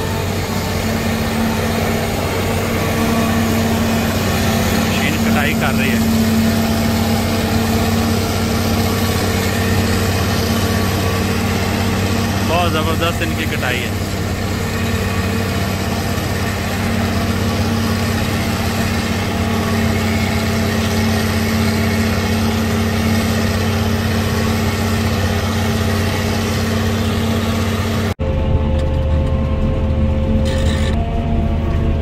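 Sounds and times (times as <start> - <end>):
forage harvester running under load: 0.0 - 32.0
steady engine hum: 0.0 - 32.0
tractor engine: 0.0 - 32.0.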